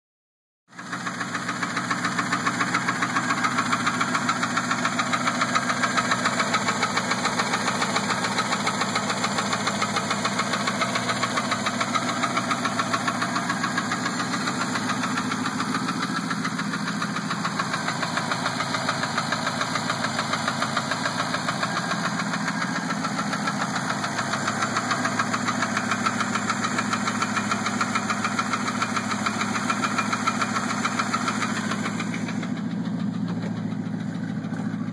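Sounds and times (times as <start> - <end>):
engine idling with rapid ticking: 0.7 - 34.9.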